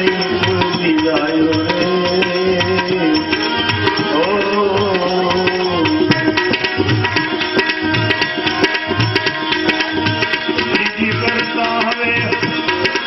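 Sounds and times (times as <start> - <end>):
tabla rhythm: 0.0 - 13.0.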